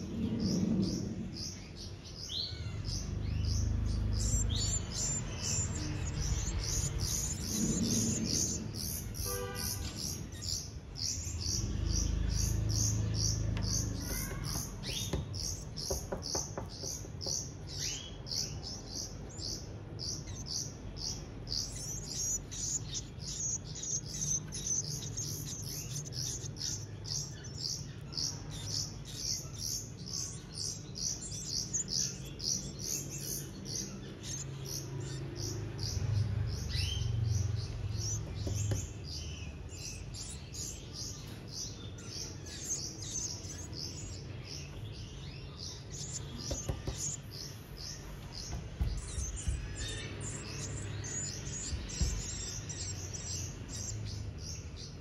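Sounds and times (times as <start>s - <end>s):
nestling birds begging cheeps: 0.0s - 55.0s.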